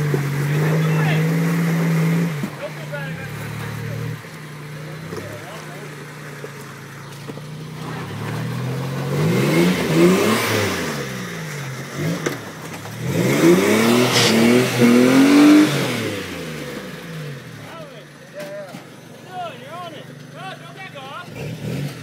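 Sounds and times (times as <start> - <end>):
engine revving: 0.0 - 17.9, 21.1 - 22.0.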